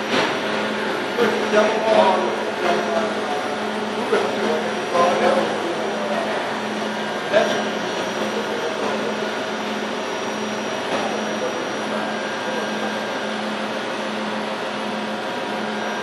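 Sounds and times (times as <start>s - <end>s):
machine whirring hum: 0.0s - 16.0s.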